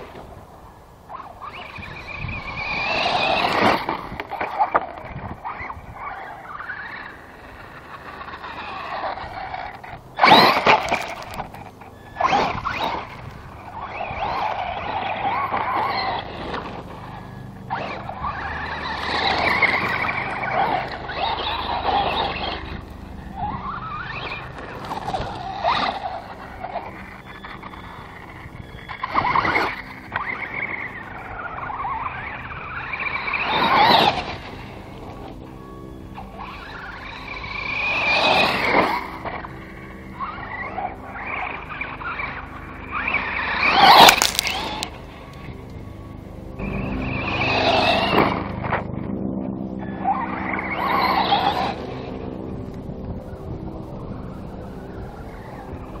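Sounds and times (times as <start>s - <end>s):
tires crunching gravel: 0.0s - 49.0s, 49.8s - 53.6s
electric motor whining: 0.0s - 56.0s.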